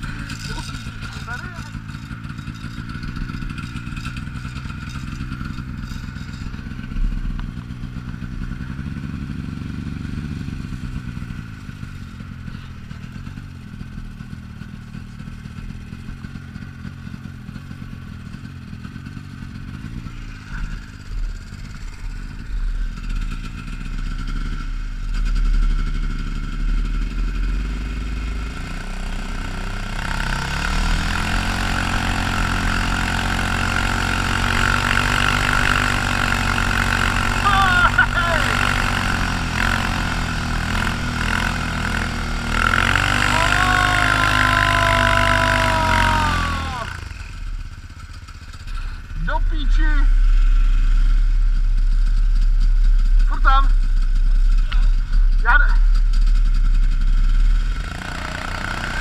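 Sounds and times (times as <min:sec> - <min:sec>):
vehicle engine idling and revving: 0:00.0 - 0:59.0.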